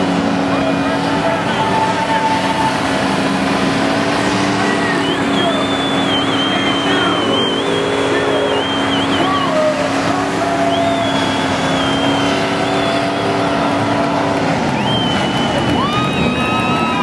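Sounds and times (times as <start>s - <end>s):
engines revving high: 0.0s - 17.0s
tyres spinning and squealing: 0.5s - 17.0s.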